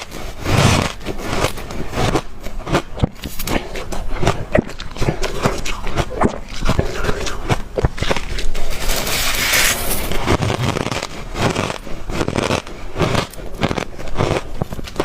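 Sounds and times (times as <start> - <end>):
ice crunched between teeth: 0.0 - 15.0.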